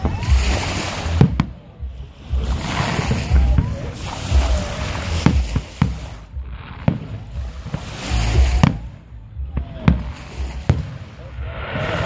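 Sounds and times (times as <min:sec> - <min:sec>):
fireworks bursting bangs: 0:00.0 - 0:12.0
low rumble: 0:00.0 - 0:12.0.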